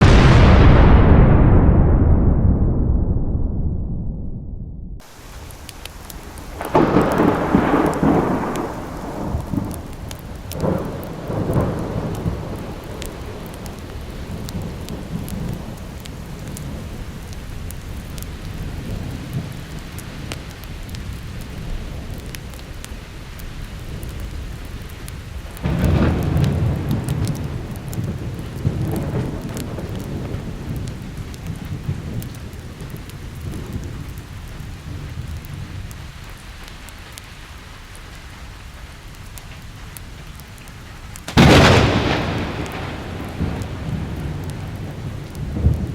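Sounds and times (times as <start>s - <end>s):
thunder rumbling: 0.0s - 37.0s, 38.4s - 45.9s
steady rain: 5.0s - 45.9s.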